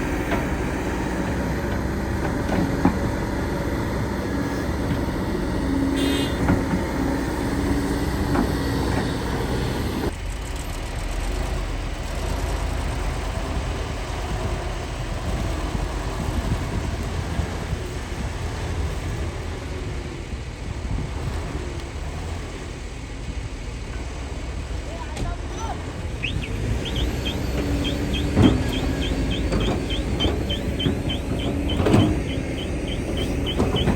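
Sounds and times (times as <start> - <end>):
heavy machinery engine running: 0.0 - 33.9.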